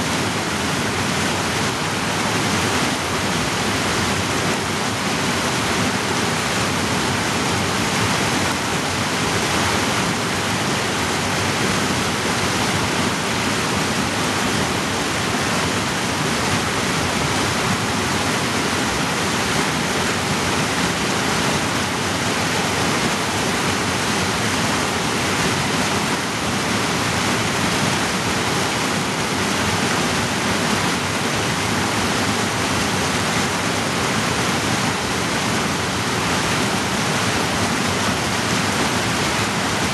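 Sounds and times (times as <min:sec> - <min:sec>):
creek rushing over boulders: 0:00.0 - 0:39.9.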